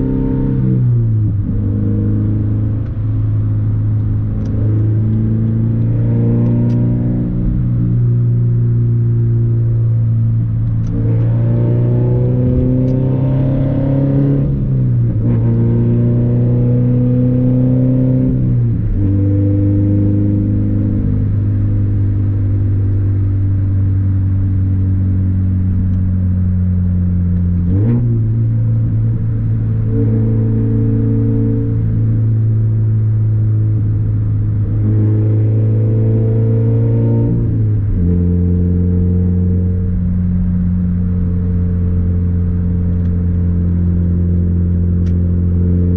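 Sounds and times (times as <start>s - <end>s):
car engine accelerating and shifting: 0.0s - 45.9s.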